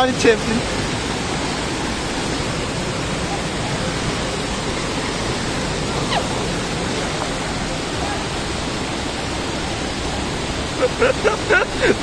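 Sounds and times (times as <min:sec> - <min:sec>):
water rushing over boulders: 0:00.0 - 0:12.0.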